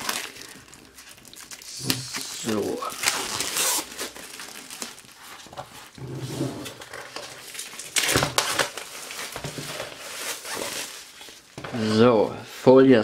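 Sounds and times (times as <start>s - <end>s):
plastic shrink-wrap crinkling and tearing: 0.0s - 6.0s, 6.7s - 12.0s.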